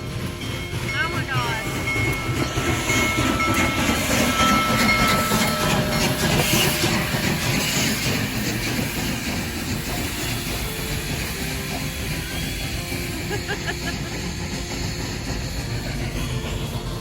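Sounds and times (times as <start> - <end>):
train rumbling past: 0.0 - 17.0
wheels clattering over rails: 1.6 - 17.0.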